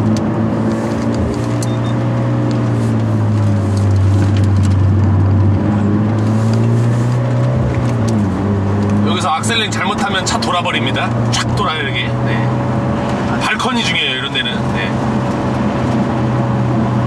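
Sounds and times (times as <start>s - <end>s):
car engine pulling: 0.0s - 17.0s.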